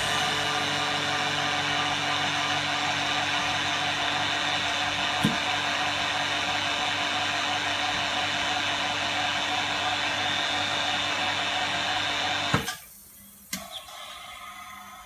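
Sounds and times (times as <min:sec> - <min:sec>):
electric pump motor humming: 0:00.0 - 0:12.6.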